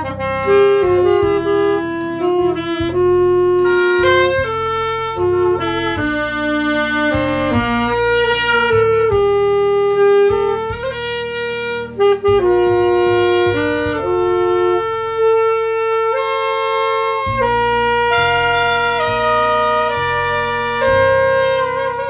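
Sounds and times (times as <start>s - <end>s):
saxophone slow melody: 0.0s - 22.0s.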